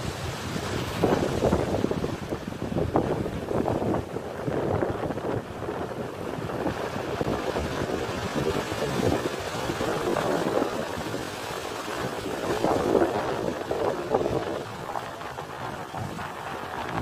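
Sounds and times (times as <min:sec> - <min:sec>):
surf breaking over rocks: 0:00.0 - 0:17.0
wind buffeting microphone: 0:00.0 - 0:17.0.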